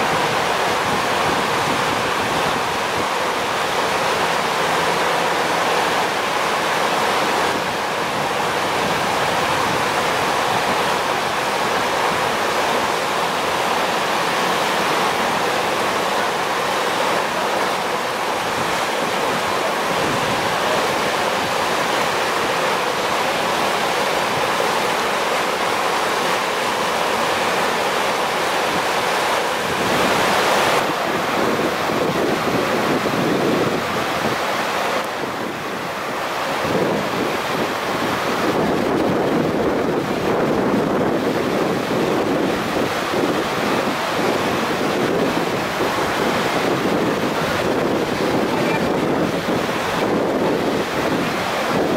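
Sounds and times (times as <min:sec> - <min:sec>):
river rushing: 0:00.0 - 0:51.9
wind on microphone: 0:00.0 - 0:51.9.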